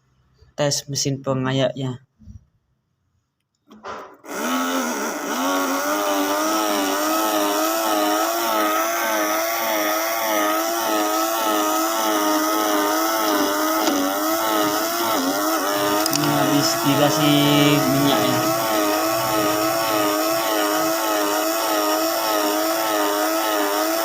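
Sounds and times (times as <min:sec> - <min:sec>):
small motor whining: 0:04.2 - 0:24.0.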